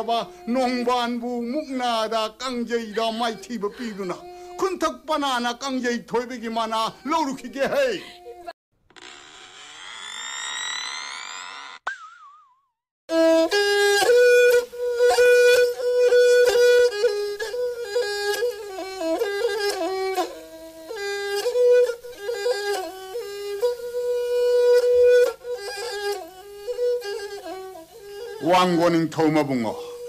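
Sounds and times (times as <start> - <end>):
instrumental melody: 0.0 - 8.6, 13.1 - 30.0.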